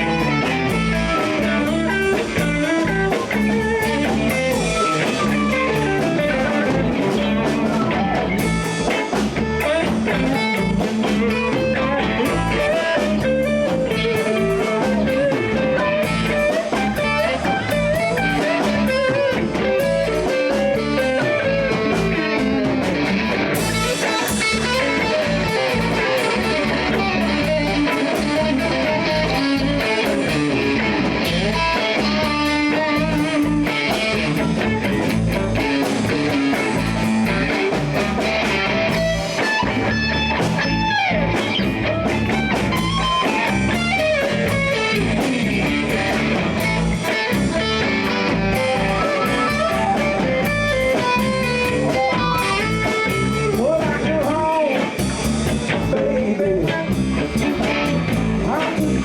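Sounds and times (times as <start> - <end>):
bass guitar: 0.0 - 59.0
drums: 0.0 - 59.0
electric guitar lead: 0.0 - 59.0.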